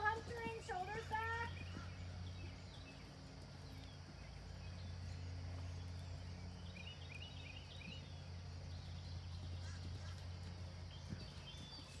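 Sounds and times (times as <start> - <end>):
hoofbeats on sand: 0.0 - 6.1, 7.6 - 12.0
low steady hum: 0.0 - 12.0
bird chirps: 0.4 - 12.0.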